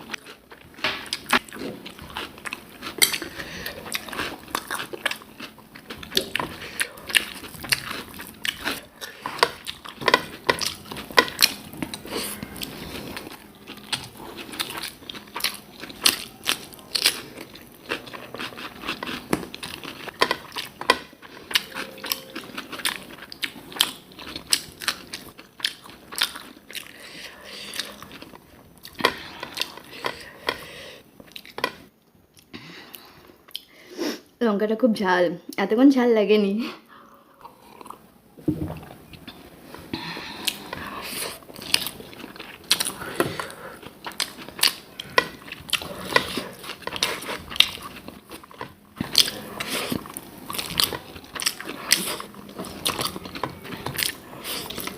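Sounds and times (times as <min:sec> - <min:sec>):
food being bitten and chewed: 0:00.0 - 0:30.6, 0:38.8 - 0:54.9.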